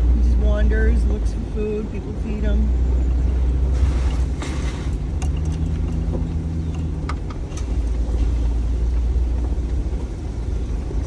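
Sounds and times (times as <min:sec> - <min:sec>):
moving car rumble: 0:00.0 - 0:11.0.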